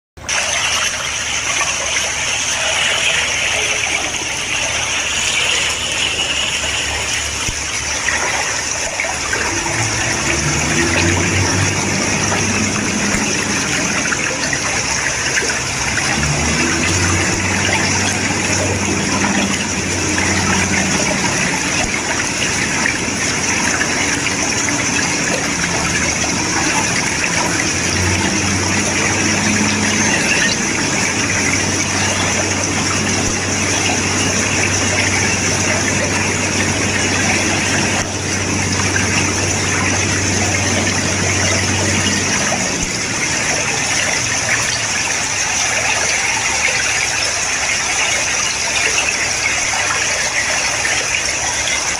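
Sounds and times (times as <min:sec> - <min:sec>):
low machine hum: 0:00.2 - 0:51.9
water gushing: 0:00.2 - 0:51.9.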